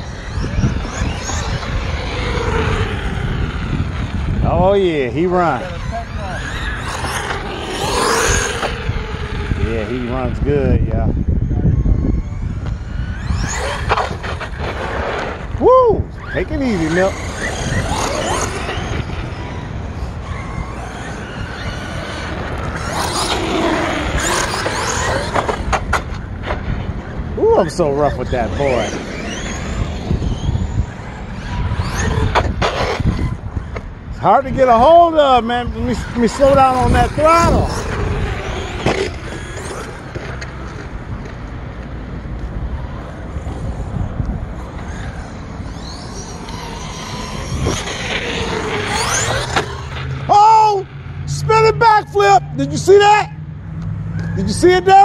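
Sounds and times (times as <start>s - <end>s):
electric motor whining: 0.0s - 41.5s, 43.0s - 51.7s
wind rumble on microphone: 0.0s - 50.3s.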